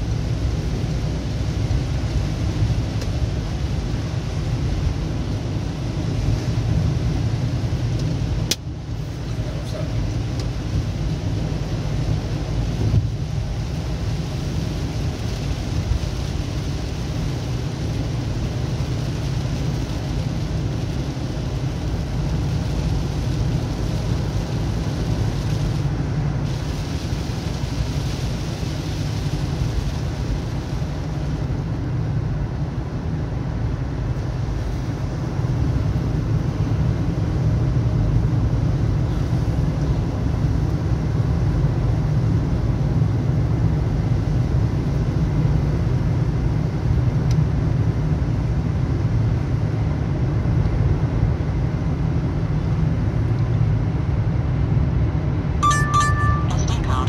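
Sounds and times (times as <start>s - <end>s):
vehicle road and engine noise: 0.0s - 57.0s.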